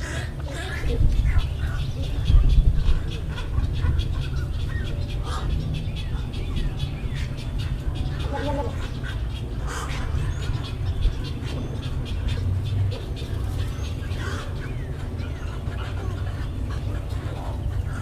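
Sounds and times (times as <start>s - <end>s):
birds croaking and squawking: 0.0s - 18.0s.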